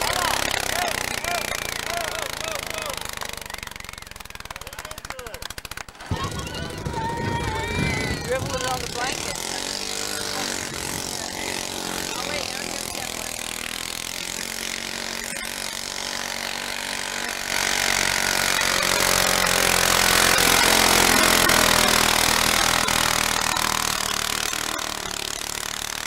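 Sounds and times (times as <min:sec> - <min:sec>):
garden tractor engine under load: 0:00.0 - 0:26.0.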